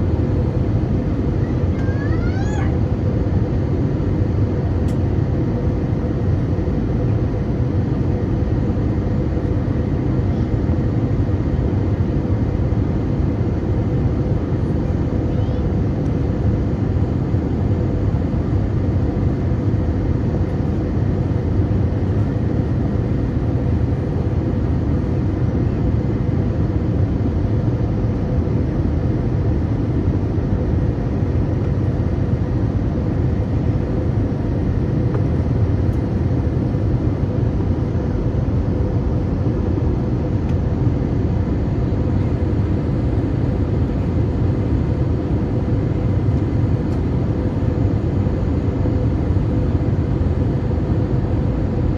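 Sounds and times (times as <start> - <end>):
airplane cabin engine rush: 0.0 - 51.9.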